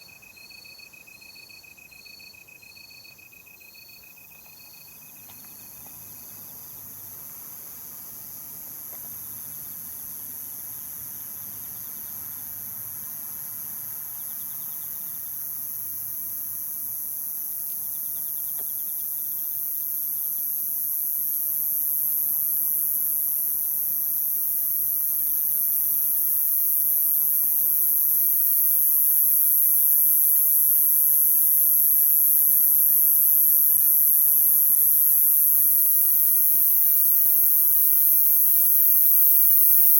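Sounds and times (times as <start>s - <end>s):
night insects chirping: 0.0s - 39.9s.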